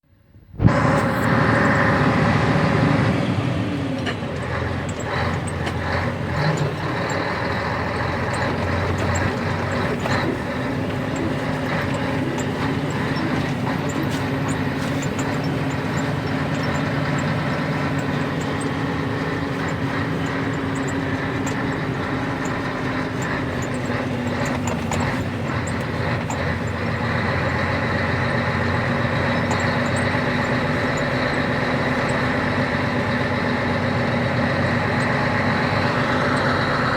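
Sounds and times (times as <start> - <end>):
truck diesel engine running: 0.6 - 36.9.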